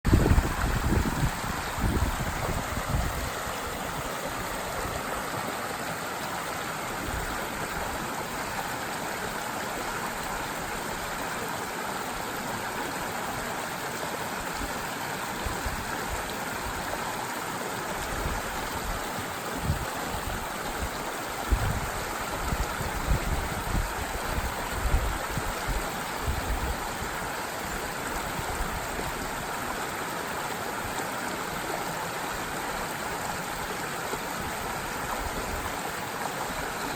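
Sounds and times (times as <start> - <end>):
forest stream babbling: 0.0 - 36.9.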